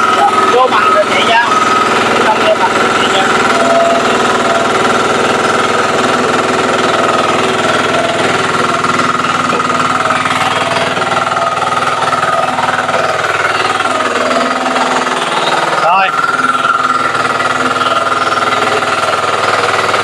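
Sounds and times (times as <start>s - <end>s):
small mower engine pulsing: 0.0s - 20.0s.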